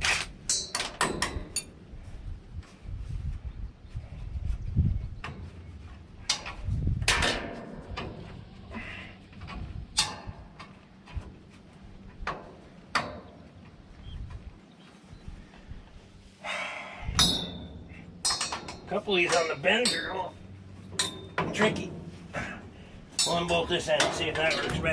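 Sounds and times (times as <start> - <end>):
low handling rumble: 1.5 - 24.9.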